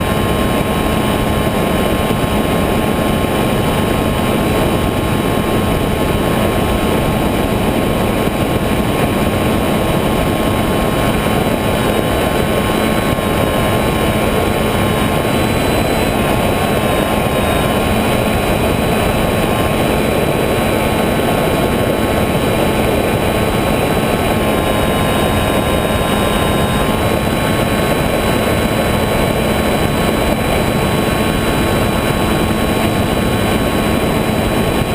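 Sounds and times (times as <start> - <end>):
model aircraft motor whine: 0.0 - 34.9
rushing air: 0.0 - 34.9.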